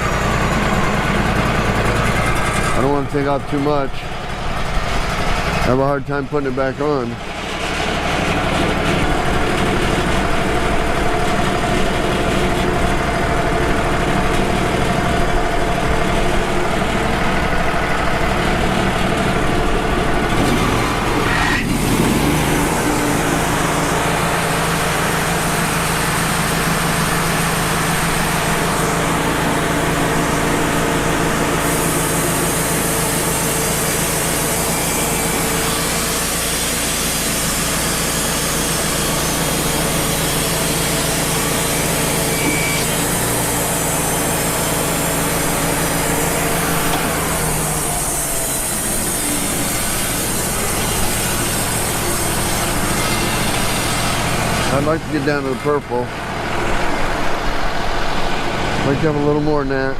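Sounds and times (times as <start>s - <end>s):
band sawmill cutting log: 0.0s - 59.9s.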